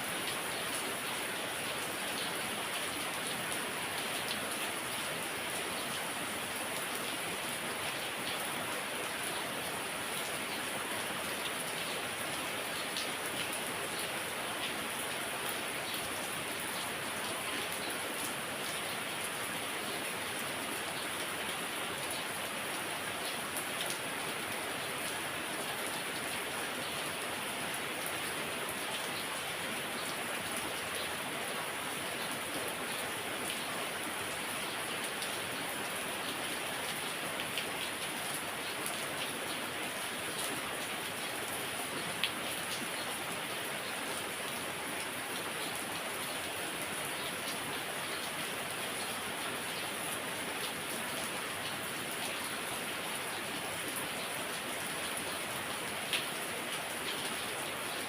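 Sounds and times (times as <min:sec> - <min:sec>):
heavy rain falling: 0:00.1 - 0:58.0.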